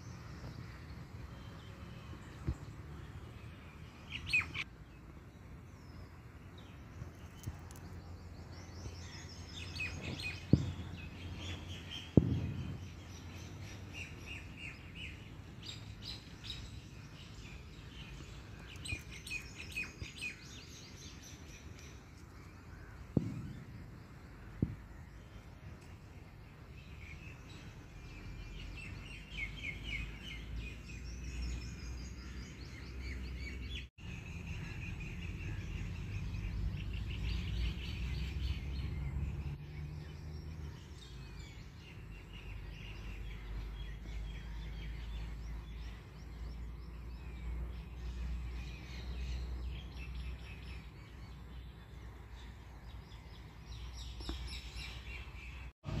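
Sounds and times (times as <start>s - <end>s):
small birds chirping: 0.0s - 56.0s
low outdoor rumble: 4.6s - 53.9s, 55.4s - 56.0s.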